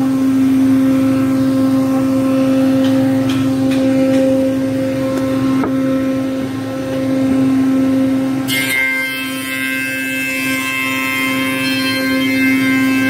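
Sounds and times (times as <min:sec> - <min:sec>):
high machine whine: 0:00.0 - 0:13.0
planer machine humming: 0:00.0 - 0:13.0.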